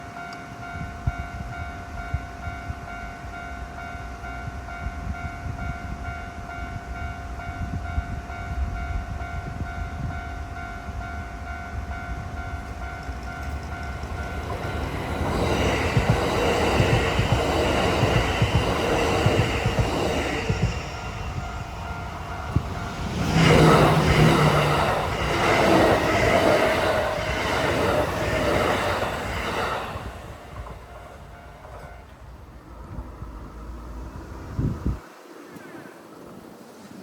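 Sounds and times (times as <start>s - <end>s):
level crossing warning bell: 0.0s - 34.0s
electric train rushing past: 0.0s - 37.0s.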